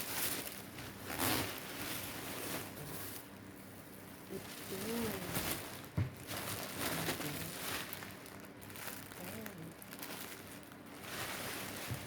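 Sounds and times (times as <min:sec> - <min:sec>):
packaging rustling and crinkling: 0:00.0 - 0:03.4, 0:04.3 - 0:12.0.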